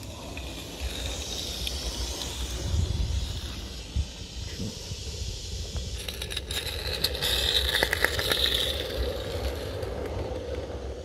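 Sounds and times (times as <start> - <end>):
small wheels clicking on track: 0.0 - 4.4, 5.0 - 11.0
steam hissing: 0.0 - 11.0.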